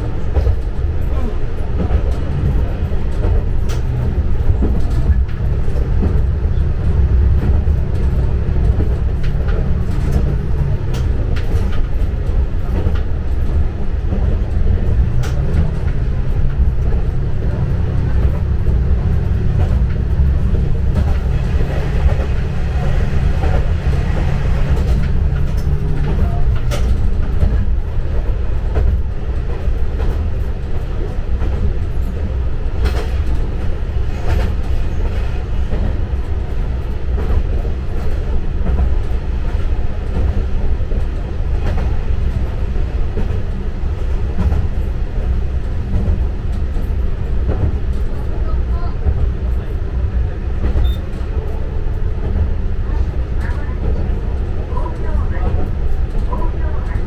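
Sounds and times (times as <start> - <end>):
diesel railcar engine drone: 0.0 - 57.0
wheels clacking over rail joints: 0.0 - 57.0.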